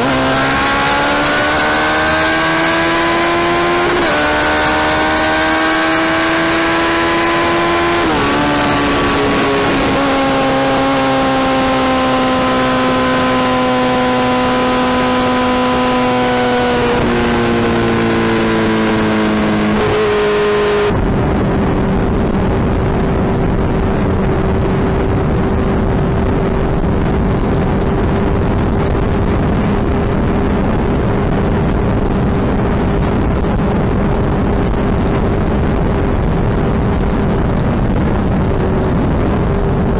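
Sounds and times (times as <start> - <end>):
motorcycle engine running: 0.0 - 39.9
rushing wind: 0.0 - 39.9.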